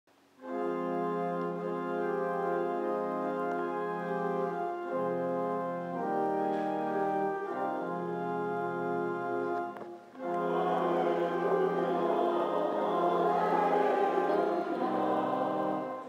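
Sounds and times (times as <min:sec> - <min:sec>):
organ playing sustained chords: 0:00.4 - 0:16.0.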